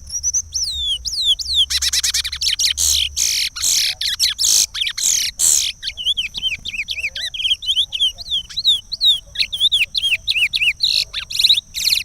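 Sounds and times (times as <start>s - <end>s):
finch singing whistles: 0.0s - 12.0s
rapid bird notes: 0.0s - 12.0s.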